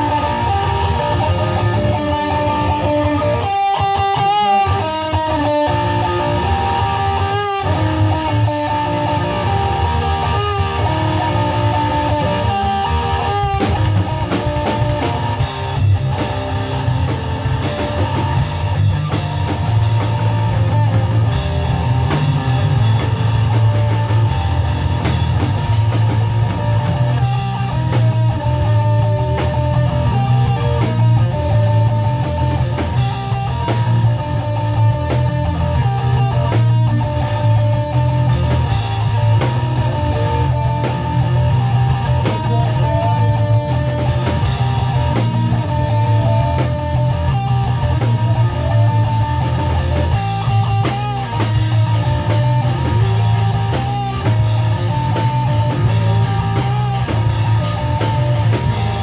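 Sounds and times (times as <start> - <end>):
distorted electric guitar riff: 0.0 - 59.0
drums and cymbals: 0.0 - 59.0.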